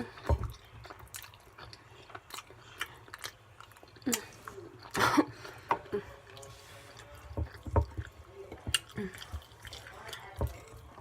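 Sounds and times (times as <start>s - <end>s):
person chewing with smacking: 0.0s - 11.0s.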